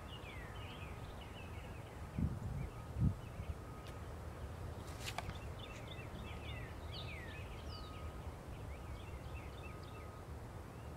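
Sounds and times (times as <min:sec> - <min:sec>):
small birds chirping: 0:00.0 - 0:10.9
steady low background noise: 0:00.0 - 0:10.9.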